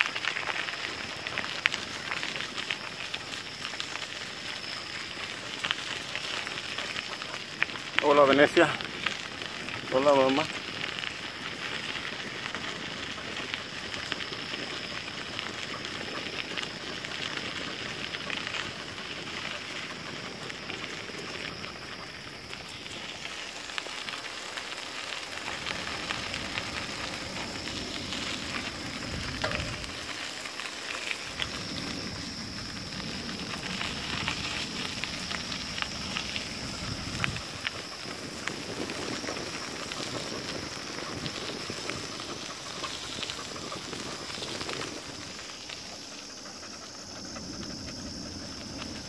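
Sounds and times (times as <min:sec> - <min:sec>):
bicycle tyres crunching on gravel: 0:00.0 - 0:49.0.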